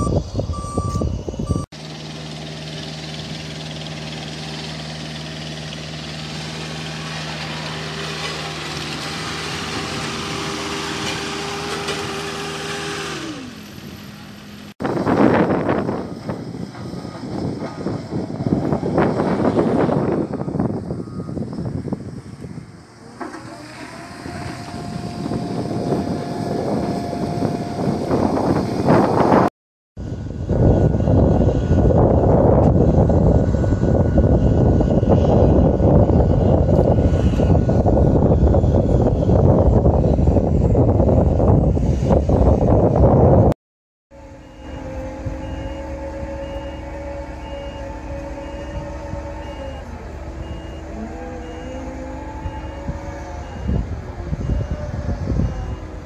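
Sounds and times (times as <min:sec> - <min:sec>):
wind on microphone: 0:00.0 - 0:01.7, 0:09.0 - 0:13.3, 0:14.8 - 0:23.0, 0:23.9 - 0:43.6, 0:44.5 - 0:56.0
road roller diesel engine running: 0:00.0 - 0:29.4, 0:30.0 - 0:43.5, 0:44.1 - 0:56.0
paving machinery working: 0:00.0 - 0:43.5, 0:44.1 - 0:56.0.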